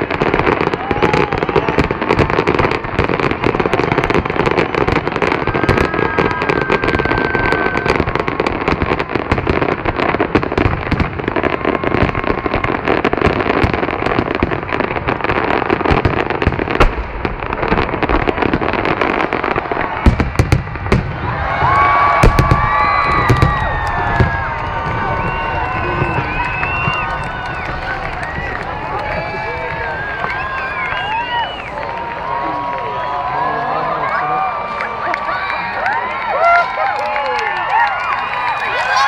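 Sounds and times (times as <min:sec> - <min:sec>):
heavy firework booms: 0:00.0 - 0:32.3
fireworks crackling and popping: 0:00.0 - 0:39.0.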